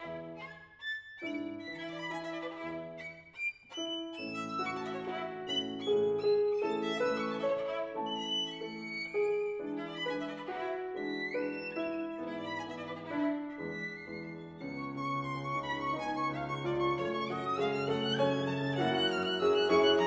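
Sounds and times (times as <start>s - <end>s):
grand piano: 0.0s - 20.0s
violin: 0.0s - 20.0s.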